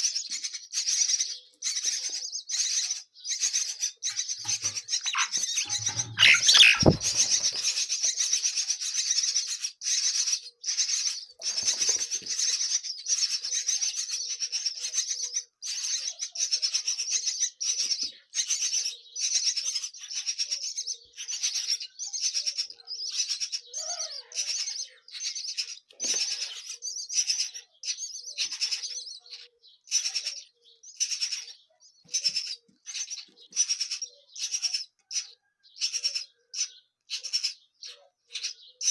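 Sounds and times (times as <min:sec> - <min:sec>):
nestling birds chirping: 0:00.0 - 0:38.9.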